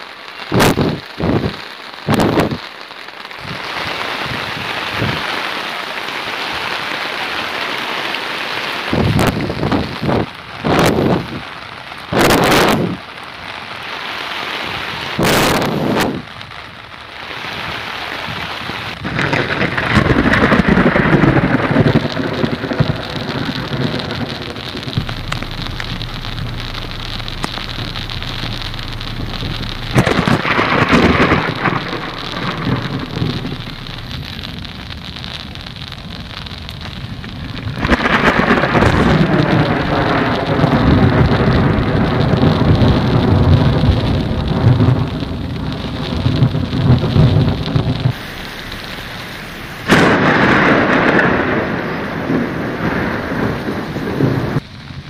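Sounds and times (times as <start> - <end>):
heavy rain pouring on puddles: 0.0 - 55.0.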